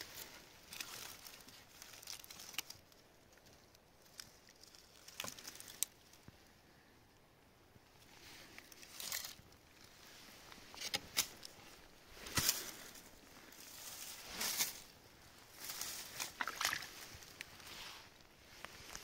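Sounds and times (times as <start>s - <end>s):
rustling in dry leaves: 0.0s - 6.3s, 7.9s - 19.0s.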